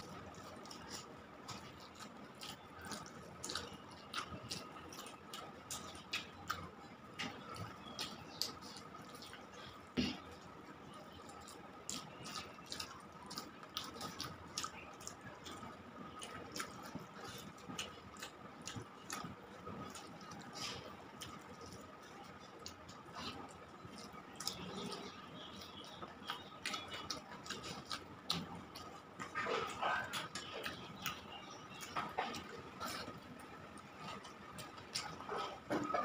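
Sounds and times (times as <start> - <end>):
fingers mixing rice on plate: 0.0 - 36.0
wet chewing: 0.0 - 36.0.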